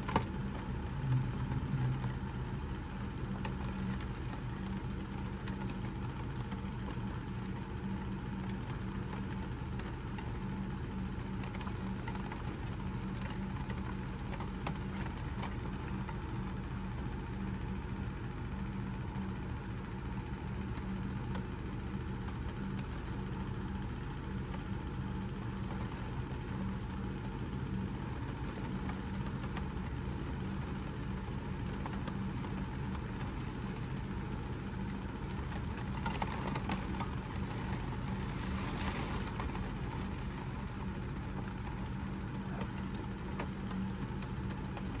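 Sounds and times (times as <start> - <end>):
constant low hum: 0.0 - 45.0.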